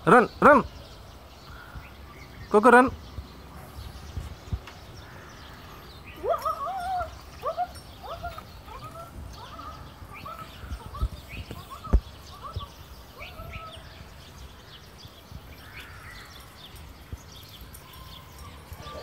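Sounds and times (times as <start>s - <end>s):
birds chirping: 0.0s - 19.0s
wind rumble on microphone: 3.0s - 19.0s.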